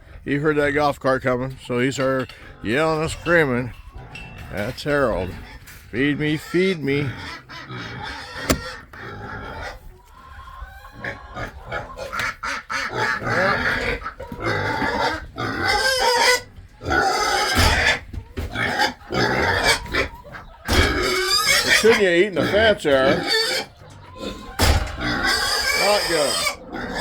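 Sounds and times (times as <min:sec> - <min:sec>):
pigs screaming: 0:02.3 - 0:27.0.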